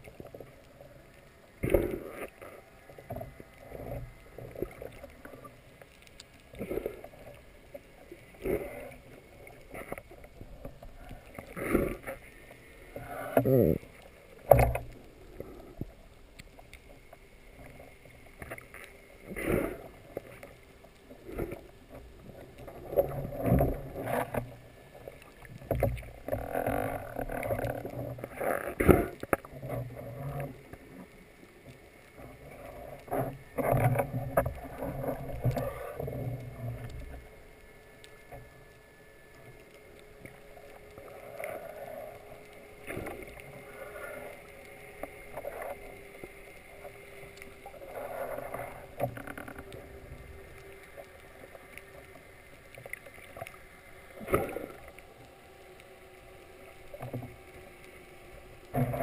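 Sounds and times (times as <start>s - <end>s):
faint steady hum: 0.0s - 59.0s
muffled underwater sound: 0.0s - 59.0s.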